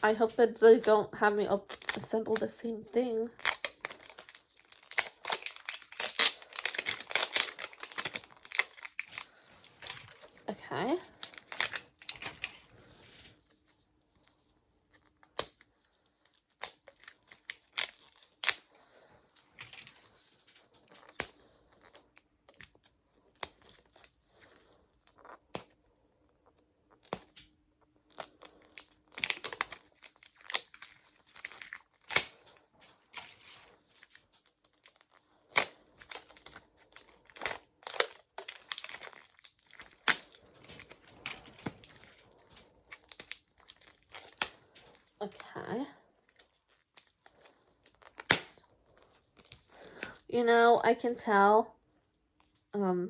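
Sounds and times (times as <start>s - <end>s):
plastic wrapping tearing and crinkling: 0.0s - 13.2s, 16.2s - 25.7s, 28.1s - 50.1s.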